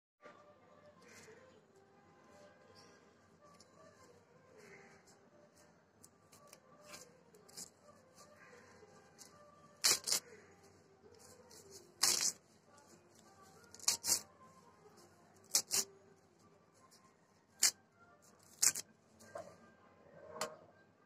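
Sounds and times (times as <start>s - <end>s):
faint voices: 0.2s - 21.0s.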